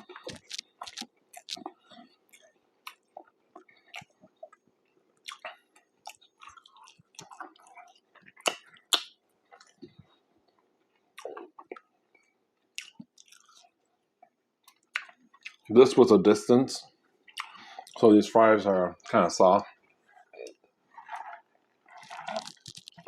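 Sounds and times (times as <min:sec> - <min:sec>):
chewing and crunching food: 0:00.0 - 0:23.0.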